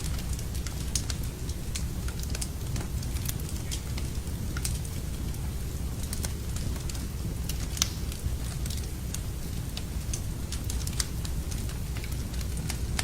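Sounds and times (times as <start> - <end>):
fire low rumble: 0.0 - 13.0
wood fire crackling: 0.0 - 13.0.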